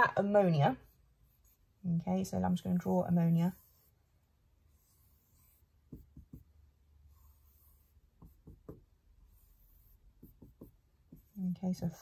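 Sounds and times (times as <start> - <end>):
marker pen strokes on whiteboard: 0.3 - 12.0.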